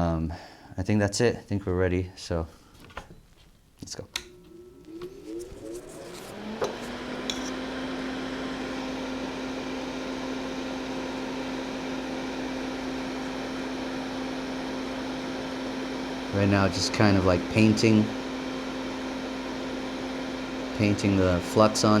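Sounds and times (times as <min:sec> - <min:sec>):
fan motor whine and hum: 0:02.8 - 0:22.0.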